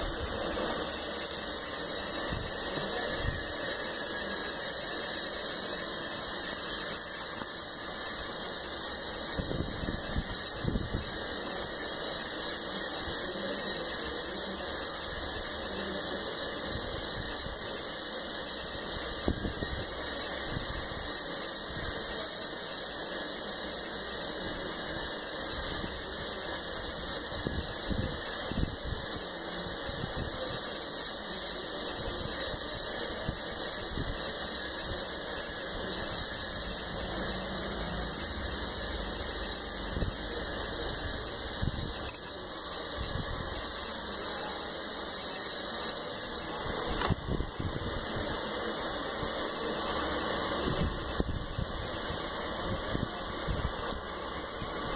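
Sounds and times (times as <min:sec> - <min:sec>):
steady hiss: 0:00.0 - 0:54.9.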